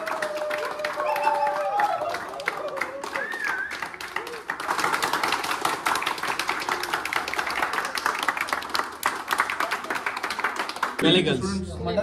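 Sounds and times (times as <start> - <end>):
people clapping: 0.0 - 11.4.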